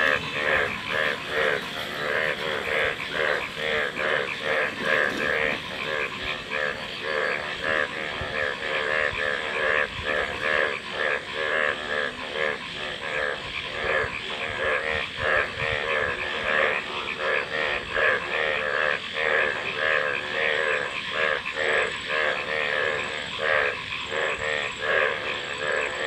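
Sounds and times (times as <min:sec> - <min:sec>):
frogs croaking in chorus: 0:00.0 - 0:26.0.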